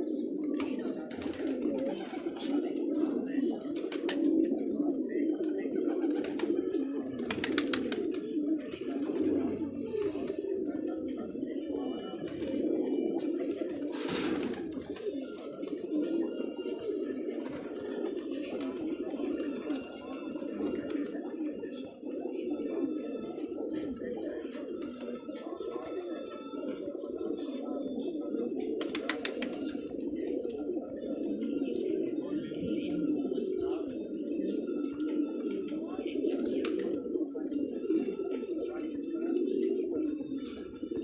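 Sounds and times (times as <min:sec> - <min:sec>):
pigeons cooing: 0:00.0 - 0:41.0.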